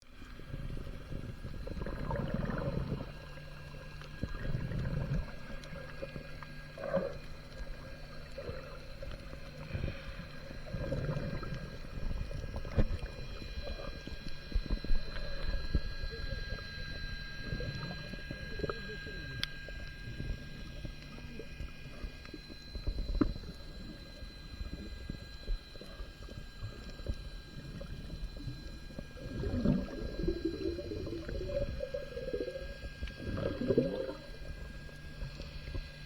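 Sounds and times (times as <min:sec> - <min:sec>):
faint high whine: 0:00.0 - 0:36.0
muffled underwater gurgling: 0:00.0 - 0:36.0.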